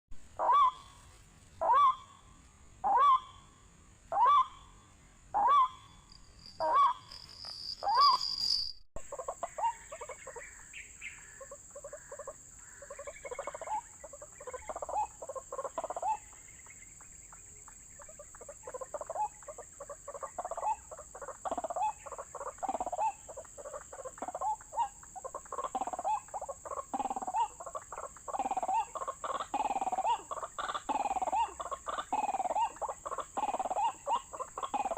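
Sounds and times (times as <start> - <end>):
waterhen calls: 0.4 - 6.0, 6.6 - 7.1, 9.0 - 16.6, 18.0 - 34.9.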